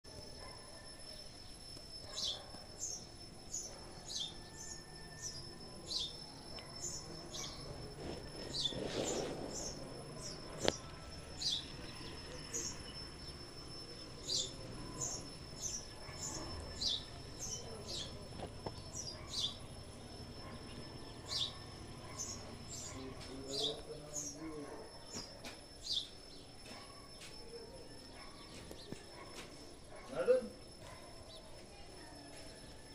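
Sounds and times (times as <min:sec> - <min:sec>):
thin steady high tone: 0:00.1 - 0:32.9
small birds chirping: 0:00.4 - 0:32.8.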